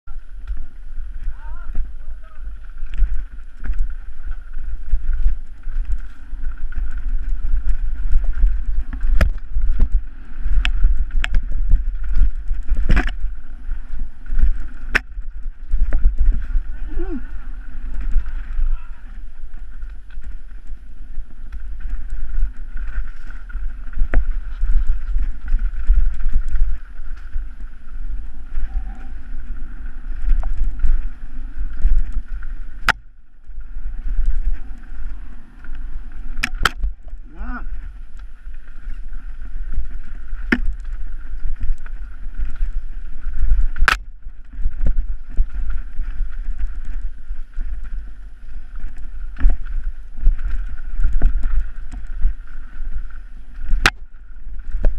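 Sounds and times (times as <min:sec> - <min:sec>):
rumble of bike on rough ground: 0:00.0 - 0:54.9
wind buffeting microphone: 0:00.1 - 0:54.9.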